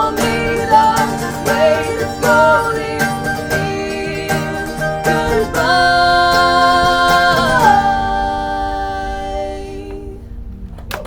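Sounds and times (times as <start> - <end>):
person singing long note with vibrato: 0.0 - 10.5.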